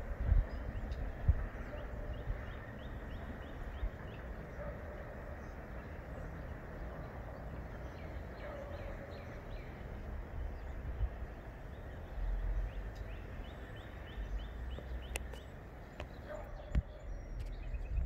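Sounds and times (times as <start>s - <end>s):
outdoor background rush: 0.0s - 18.0s
small birds chirping: 0.3s - 18.0s.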